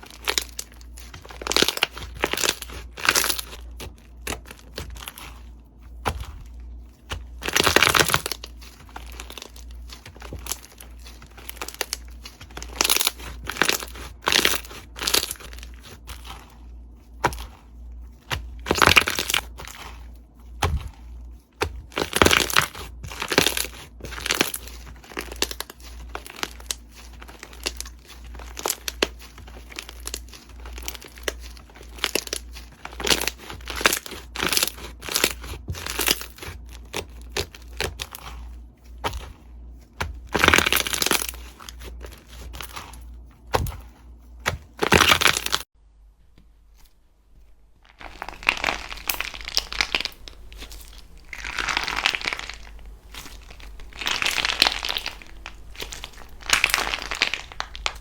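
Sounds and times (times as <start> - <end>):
slime crackling and popping: 0.0 - 5.4, 6.0 - 16.6, 18.3 - 38.5, 40.0 - 45.7, 47.8 - 58.0.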